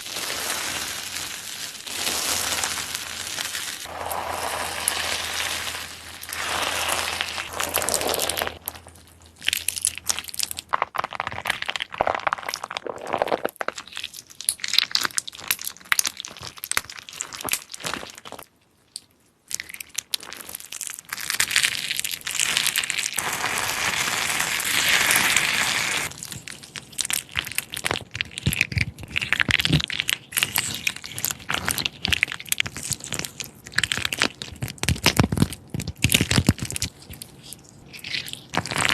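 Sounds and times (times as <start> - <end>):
crunchy slime crackling and popping: 0.0 - 38.9.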